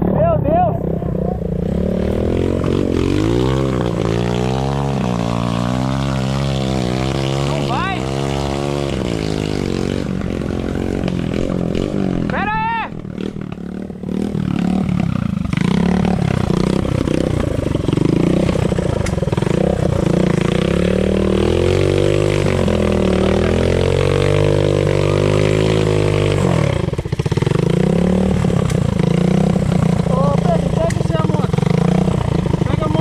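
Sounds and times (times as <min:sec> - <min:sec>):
motorcycle engine revving hard: 0:00.0 - 0:33.0.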